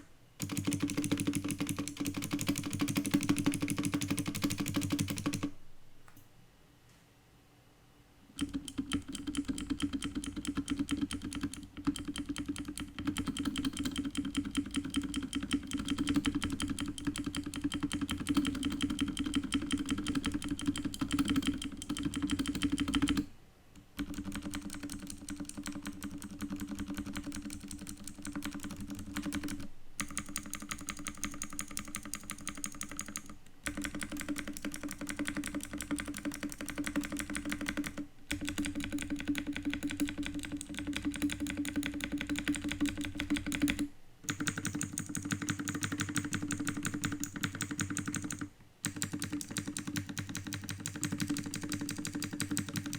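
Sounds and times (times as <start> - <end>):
clicky mechanical keyboard typing: 0.0 - 6.3, 8.4 - 52.9.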